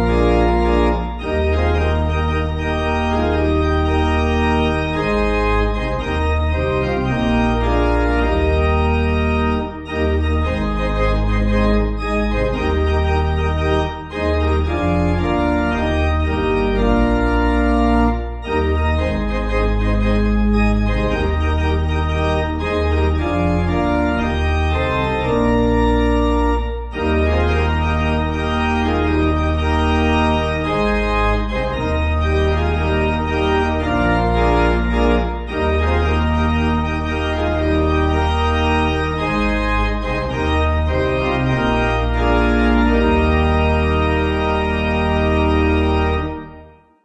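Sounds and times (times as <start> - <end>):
organ playing held chords: 0.0 - 47.0.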